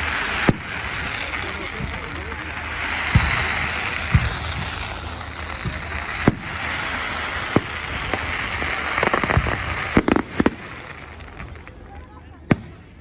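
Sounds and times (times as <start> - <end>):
background hiss: 0.0 - 13.0
fireworks bangs and pops: 0.0 - 13.0.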